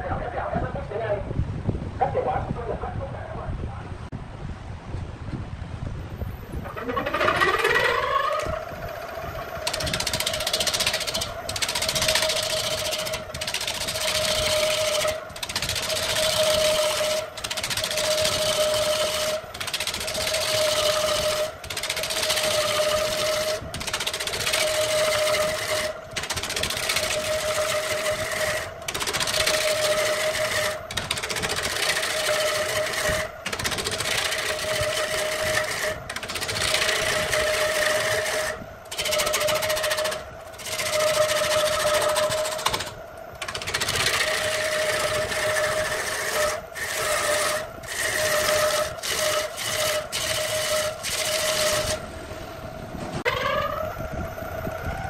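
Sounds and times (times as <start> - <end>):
turning tool shaving wood: 6.6 - 52.1, 53.2 - 53.9
wood lathe whine: 6.6 - 55.0.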